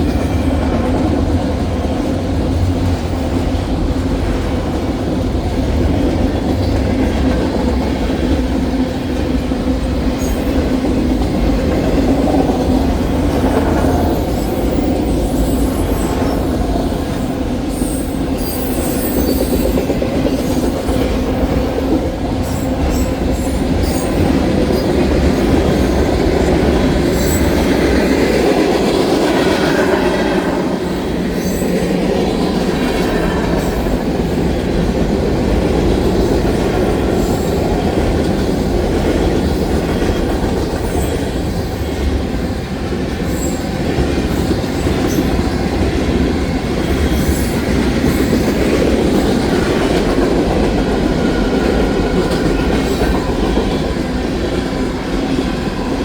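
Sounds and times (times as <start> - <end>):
train wheels clacking over rails: 0.0 - 56.0.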